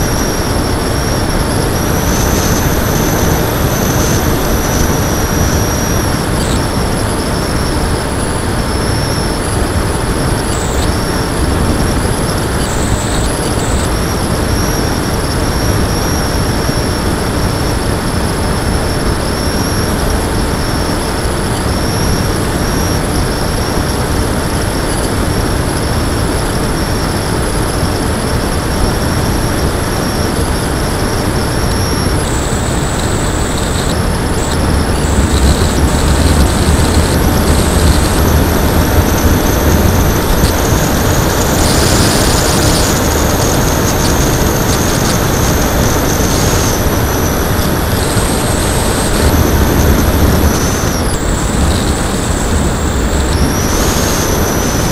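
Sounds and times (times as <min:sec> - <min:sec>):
electric motor whine: 0:00.0 - 0:54.9
wind and propeller rush: 0:00.0 - 0:54.9.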